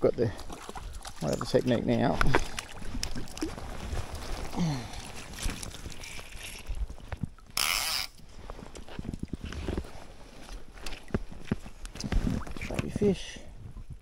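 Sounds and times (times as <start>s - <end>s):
creek water lapping: 0.0s - 13.5s.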